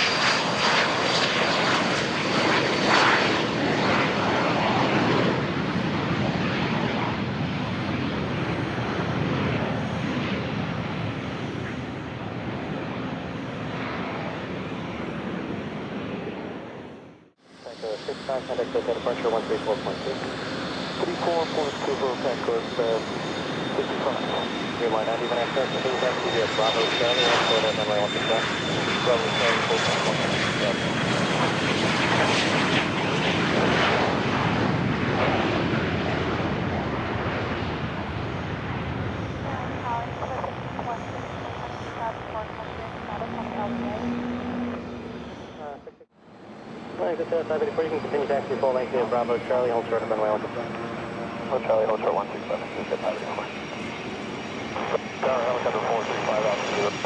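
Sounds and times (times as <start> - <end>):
jet engine rush: 0.0 - 57.0.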